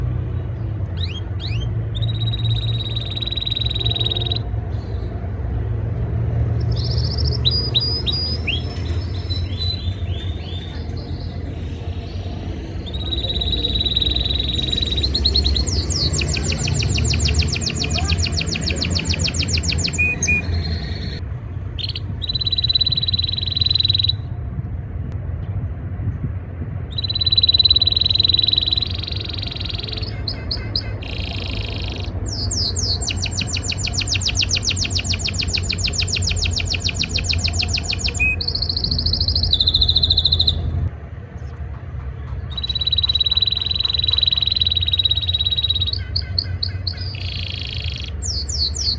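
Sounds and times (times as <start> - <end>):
canary singing: 0.9 - 5.0, 6.5 - 21.2, 21.8 - 24.3, 26.9 - 40.8, 42.4 - 48.9.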